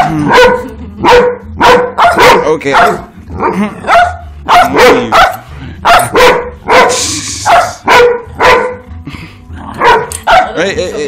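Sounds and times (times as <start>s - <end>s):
dogs barking: 0.0s - 8.9s, 9.7s - 11.0s.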